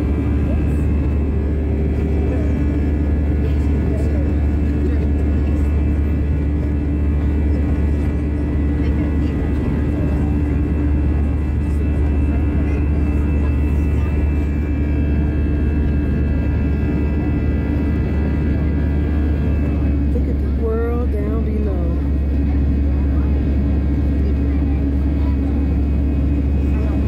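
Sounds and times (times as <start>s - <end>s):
jet engine drone: 0.0s - 27.0s.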